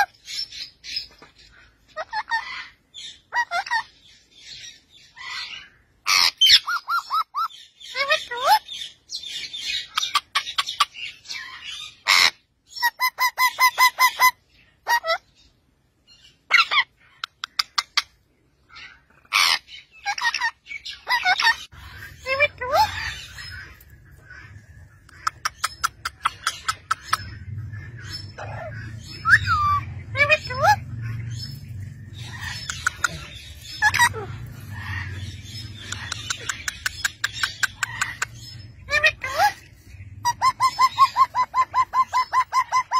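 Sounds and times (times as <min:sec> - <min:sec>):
parakeets chirping: 0:00.0 - 0:42.9.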